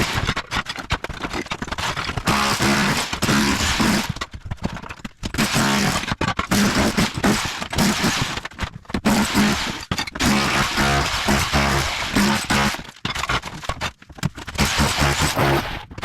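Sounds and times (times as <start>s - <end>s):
rotary hammer chiselling tile: 0.0s - 13.8s.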